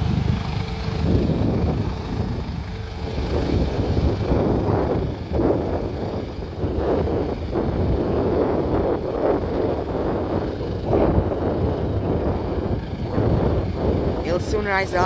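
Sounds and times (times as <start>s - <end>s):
helicopter rotors and engine: 0.0s - 15.0s
wind buffeting microphone: 0.0s - 15.0s.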